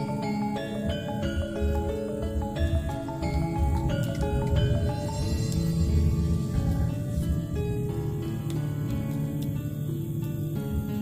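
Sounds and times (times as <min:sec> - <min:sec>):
melody of short stepping notes: 0:00.0 - 0:10.4
steady low beat: 0:00.0 - 0:11.0.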